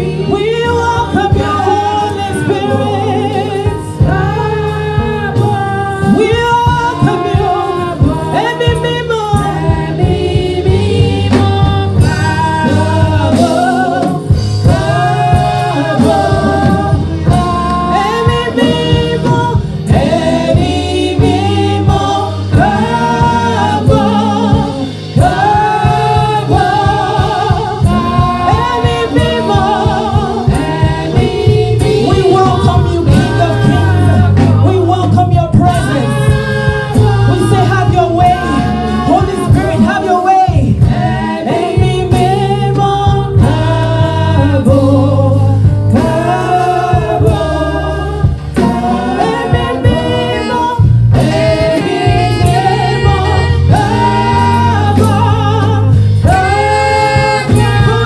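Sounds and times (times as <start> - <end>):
instrumental backing with beat: 0.0 - 58.0
woman singing lead: 0.0 - 58.0
women backing singers: 0.0 - 58.0.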